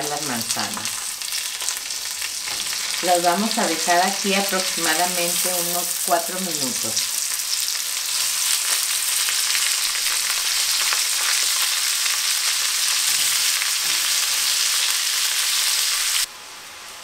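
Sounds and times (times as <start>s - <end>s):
apple slices sizzling in pan: 0.0s - 17.0s.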